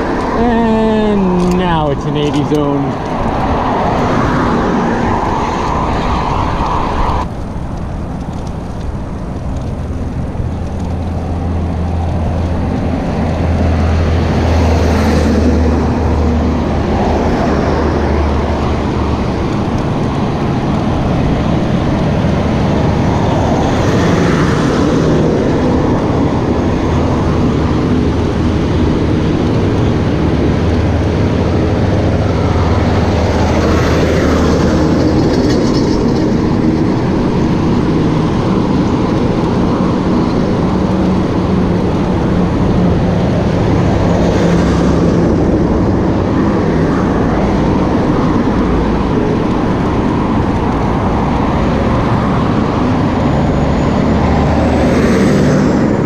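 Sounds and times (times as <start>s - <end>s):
cars and trucks driving by: 0.0s - 56.0s
truck engine drone: 0.0s - 56.0s.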